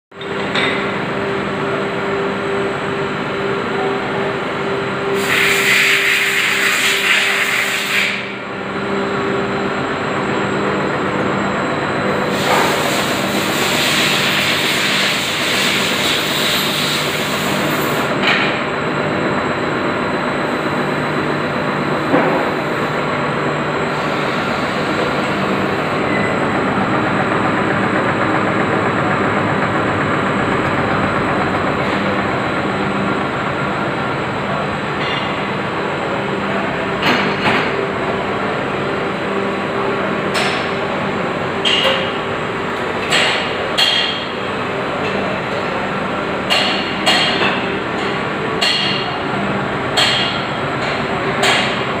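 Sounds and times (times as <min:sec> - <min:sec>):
workshop machinery humming: 0:00.1 - 0:52.0.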